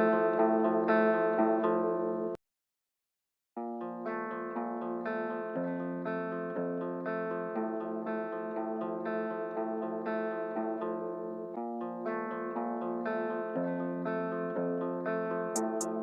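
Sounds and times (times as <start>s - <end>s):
plucked guitar notes: 0.0s - 2.4s, 3.6s - 16.0s.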